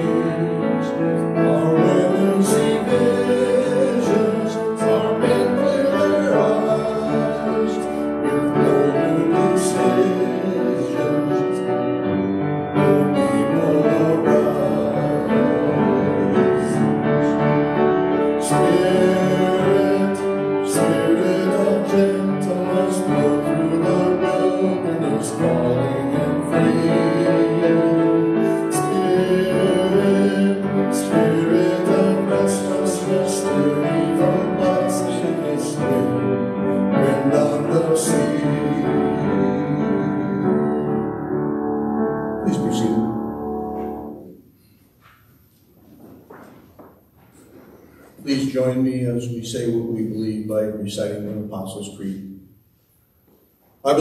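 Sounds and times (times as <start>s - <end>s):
hymn singing: 0.0s - 44.8s, 47.4s - 52.3s
keyboard accompaniment: 0.0s - 45.3s.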